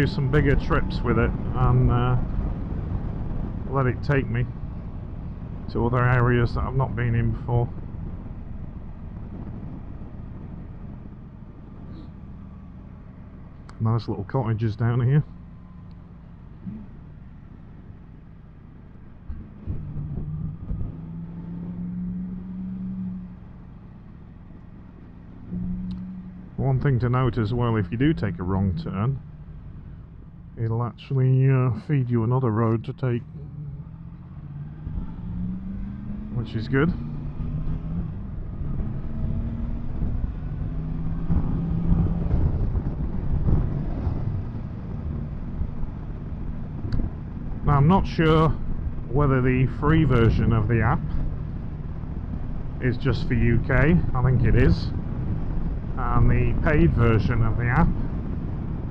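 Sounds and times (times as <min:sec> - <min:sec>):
low rumble: 0:00.0 - 0:58.9
wind rushing over microphone: 0:00.0 - 0:58.9.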